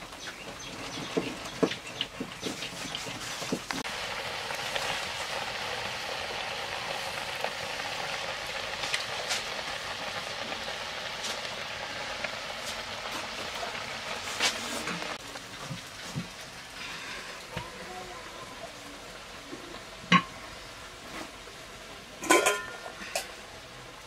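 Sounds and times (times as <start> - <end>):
curry bubbling in a pot: 0.0 - 24.0
wood fire crackling: 0.0 - 24.0.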